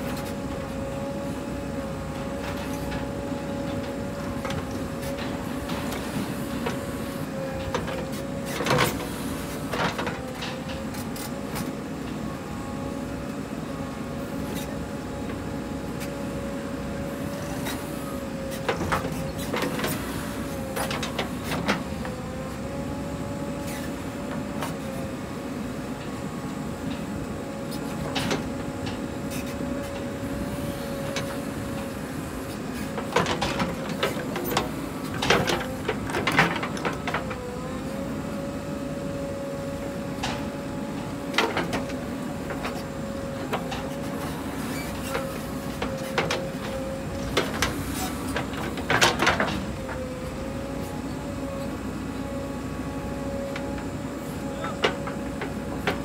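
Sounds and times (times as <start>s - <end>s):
diesel engine and hydraulics whine: 0.0s - 56.0s.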